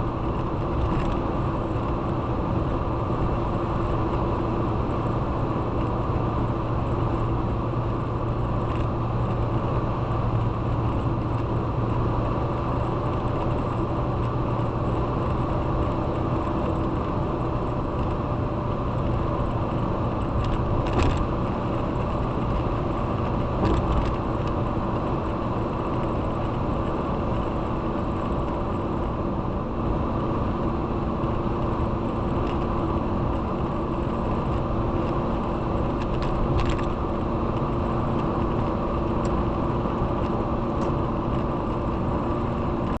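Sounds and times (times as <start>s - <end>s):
car engine hum: 0.0s - 43.0s
road noise: 0.0s - 43.0s.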